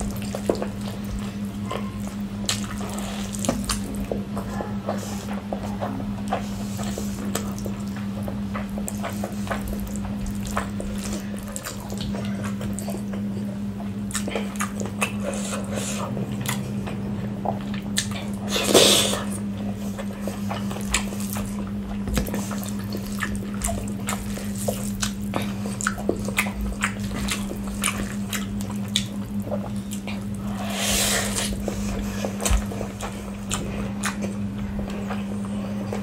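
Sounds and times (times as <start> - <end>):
chewing and lip smacks: 0.0 - 36.0
steady low hum: 0.0 - 36.0.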